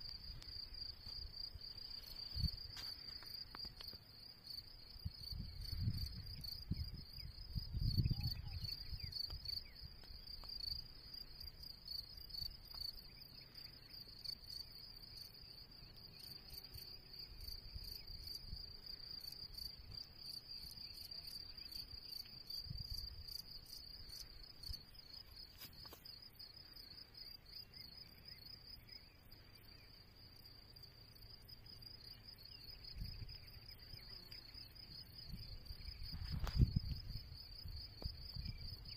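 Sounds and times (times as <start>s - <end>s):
insects chirping in pulsing trill: 0.0s - 38.9s.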